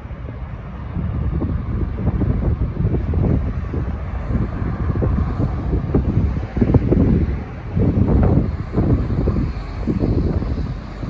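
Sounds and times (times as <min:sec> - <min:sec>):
diesel locomotive rumble: 0:00.0 - 0:11.0
wind buffeting microphone: 0:00.0 - 0:11.0.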